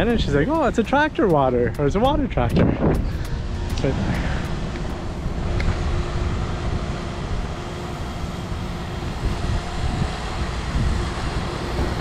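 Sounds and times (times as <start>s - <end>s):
boat diesel engine droning: 0.0s - 12.0s.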